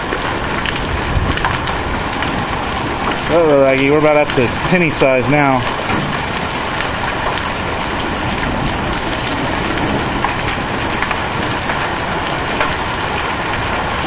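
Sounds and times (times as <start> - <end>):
hailstones clattering: 0.0 - 14.0.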